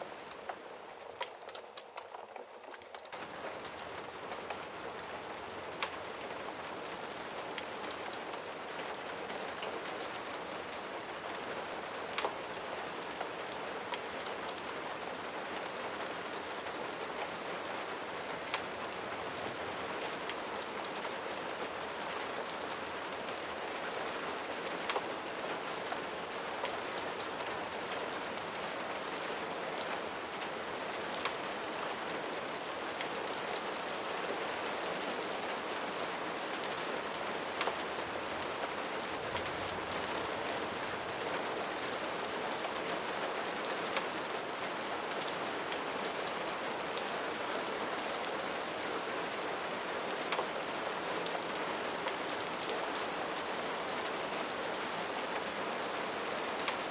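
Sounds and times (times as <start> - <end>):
rain pattering on surfaces: 0.0 - 56.9.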